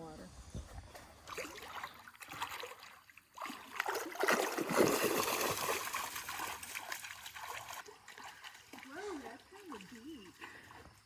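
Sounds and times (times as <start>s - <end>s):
water splashing from wading: 1.2s - 10.8s.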